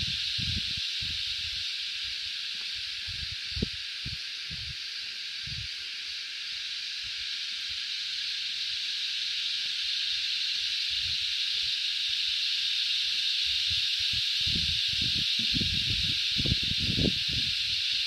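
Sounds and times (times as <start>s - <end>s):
cicadas chorus: 0.0s - 18.0s.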